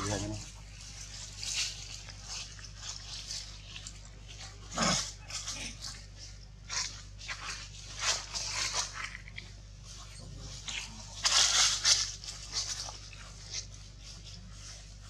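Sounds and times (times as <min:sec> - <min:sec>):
dry leaves crackling and rustling: 0:00.0 - 0:15.0.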